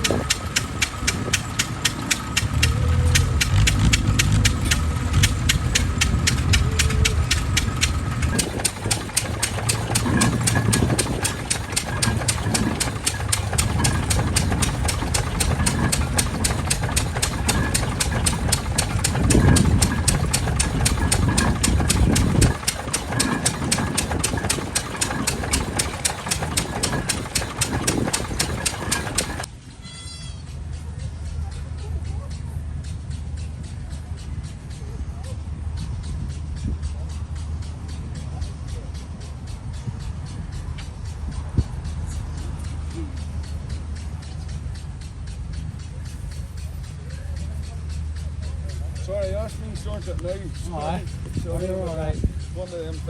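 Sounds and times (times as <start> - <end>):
engine running with knocking beat: 0.0 - 29.6, 30.4 - 53.0.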